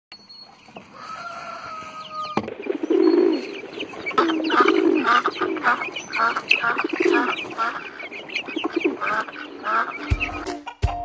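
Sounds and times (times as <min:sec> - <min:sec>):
poultry clucking: 0:00.2 - 0:11.0.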